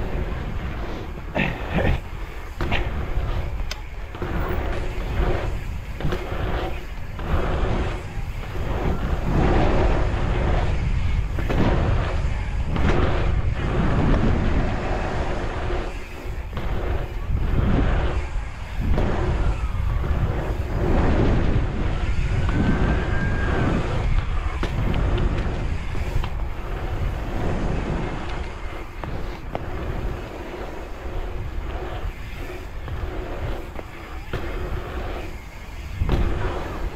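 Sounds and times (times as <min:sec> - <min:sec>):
bicycle tyres rolling on asphalt: 0:00.0 - 0:36.9
wind buffeting microphone: 0:00.0 - 0:36.9.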